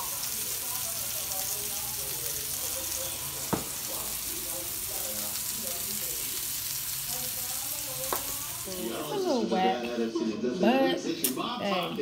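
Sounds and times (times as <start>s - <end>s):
burger sizzling on a griddle: 0.0s - 12.0s.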